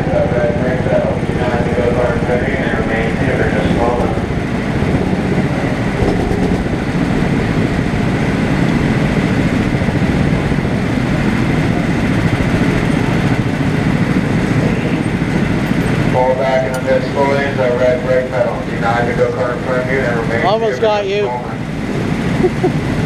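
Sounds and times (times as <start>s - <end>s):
go-kart engine running: 0.0s - 23.0s.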